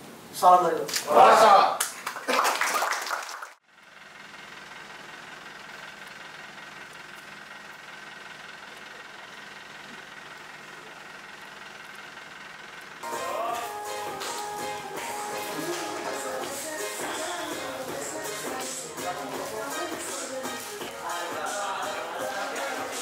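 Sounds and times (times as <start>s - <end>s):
bus engine idling: 3.6s - 23.0s.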